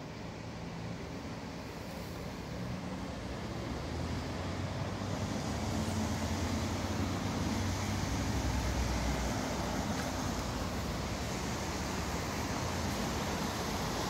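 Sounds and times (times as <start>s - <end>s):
background hiss: 0.0s - 14.0s
city road traffic rumble: 0.0s - 14.0s.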